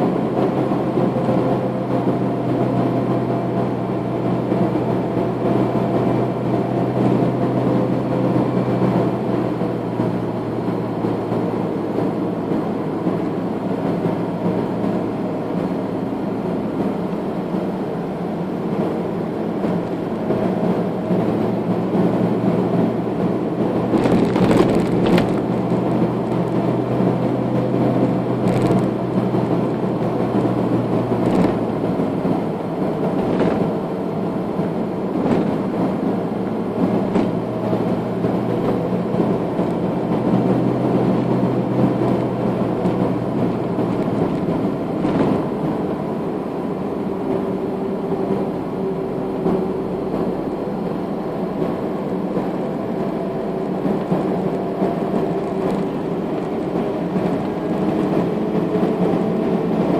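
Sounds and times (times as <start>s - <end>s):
car engine hum: 0.0s - 59.9s.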